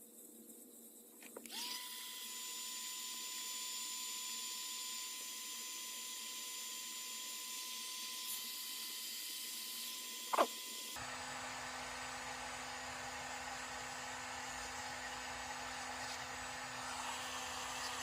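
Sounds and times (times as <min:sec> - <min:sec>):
power tool motor whine: 0:01.4 - 0:18.0.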